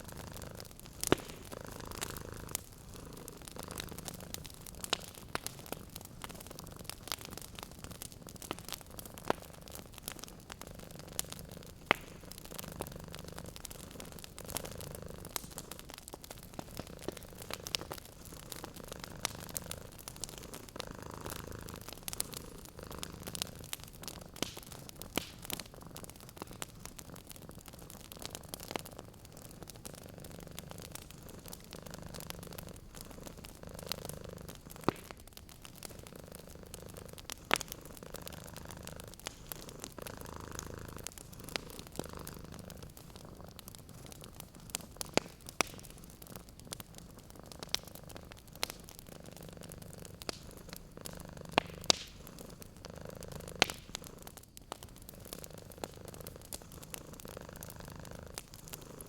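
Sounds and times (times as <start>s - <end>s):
cat purring: 0.0s - 59.0s
wood fire crackling and popping: 0.0s - 59.0s.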